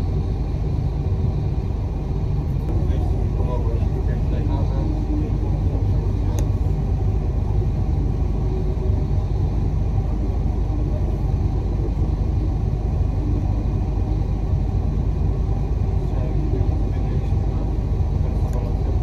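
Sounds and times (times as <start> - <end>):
moving bus rumble: 0.0 - 19.0.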